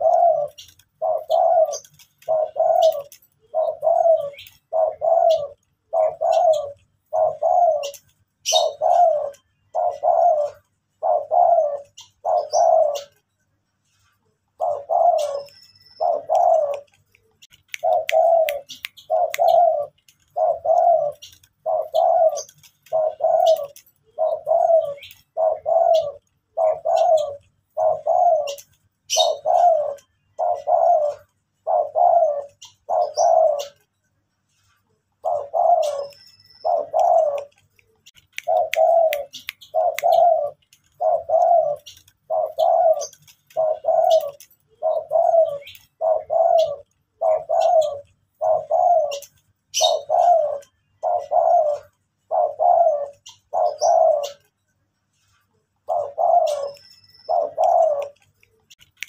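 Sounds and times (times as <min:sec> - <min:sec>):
dove cooing: 0:00.0 - 0:13.3, 0:14.5 - 0:34.0, 0:35.0 - 0:54.6, 0:55.3 - 0:58.8.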